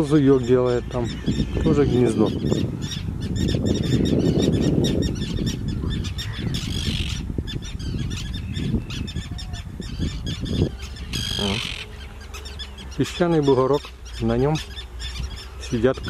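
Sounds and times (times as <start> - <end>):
terns calling: 0.0 - 16.0.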